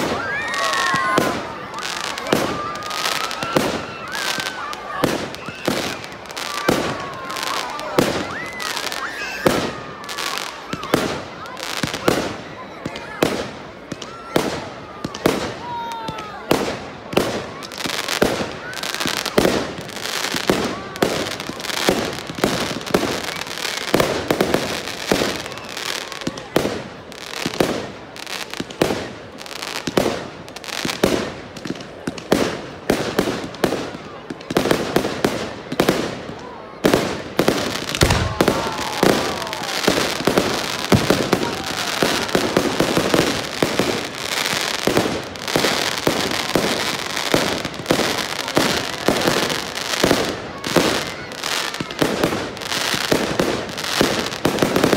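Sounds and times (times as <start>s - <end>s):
fireworks bursting with bangs: 0.0s - 54.9s
fireworks crackling: 0.0s - 54.9s
whistling fireworks: 0.0s - 54.9s.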